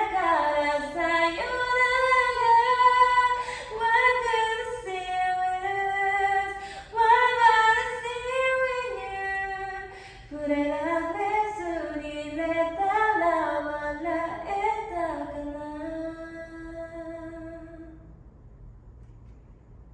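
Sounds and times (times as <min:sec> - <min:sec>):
woman singing a cappella: 0:00.0 - 0:18.1.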